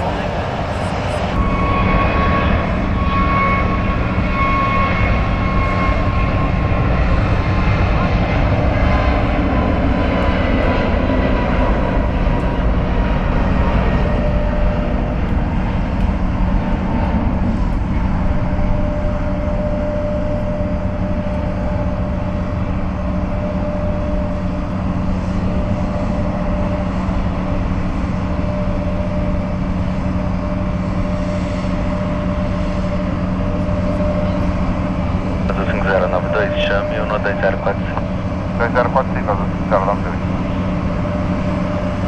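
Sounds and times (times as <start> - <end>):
jet engines at takeoff power: 0.0 - 42.0.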